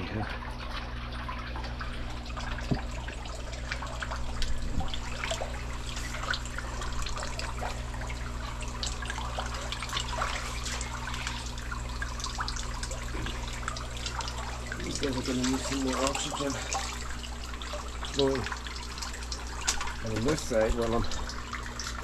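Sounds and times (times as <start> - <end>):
small drips: 0.0 - 22.0
steady low hum: 0.0 - 22.0
water trickling and splashing: 0.0 - 22.0.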